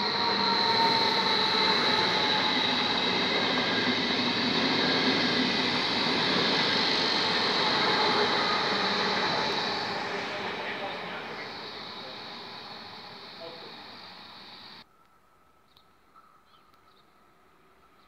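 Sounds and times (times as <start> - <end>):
train wheels rolling on rails: 0.0 - 14.8
train high whine: 0.0 - 14.9.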